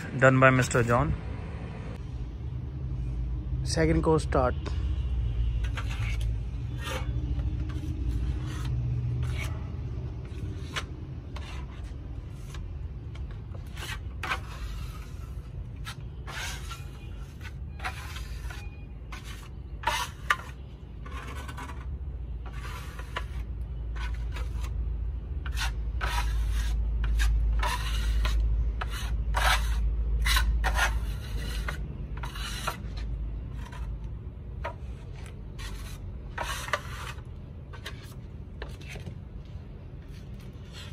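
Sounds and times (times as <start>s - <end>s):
steel trowel scraping on wall: 5.4s - 24.8s, 25.4s - 39.1s, 40.0s - 40.9s.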